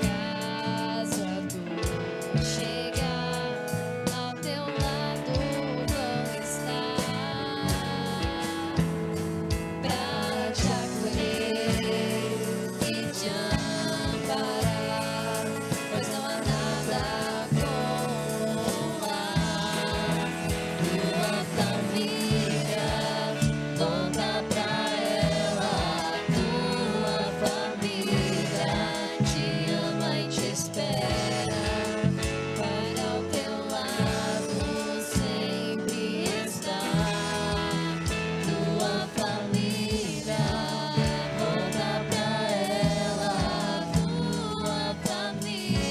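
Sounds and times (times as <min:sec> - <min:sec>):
group of voices singing: 0:00.0 - 0:45.9
instrumental accompaniment with beat: 0:00.0 - 0:45.9.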